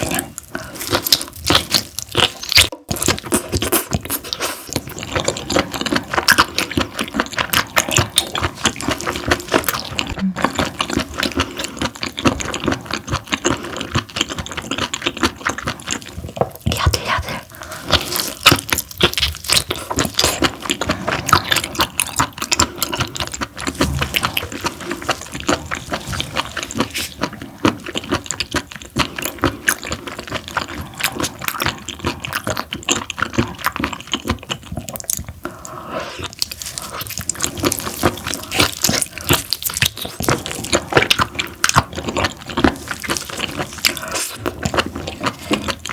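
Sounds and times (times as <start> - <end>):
wet chewing clicks and smacks: 0.0 - 35.5, 36.2 - 45.9.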